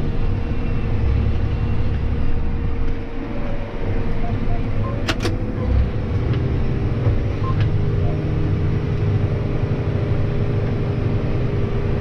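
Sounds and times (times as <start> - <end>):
tractor engine rumble: 0.0 - 12.0.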